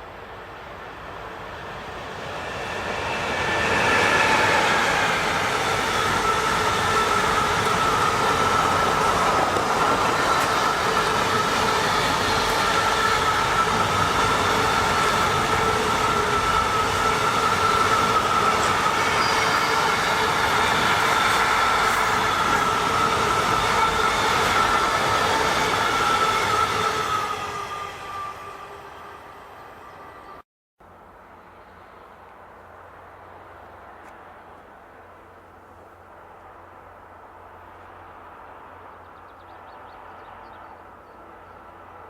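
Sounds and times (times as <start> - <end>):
train passing: 0.0 - 42.0.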